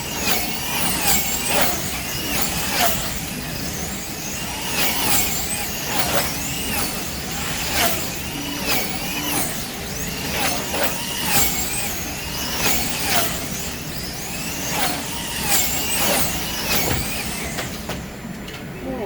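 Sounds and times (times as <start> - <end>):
slot car motors whining: 0.0 - 19.0.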